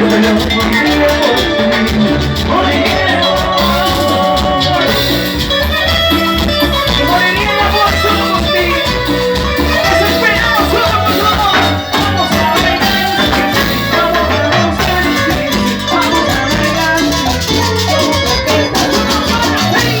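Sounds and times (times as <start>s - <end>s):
live latin dance band: 0.0s - 20.0s.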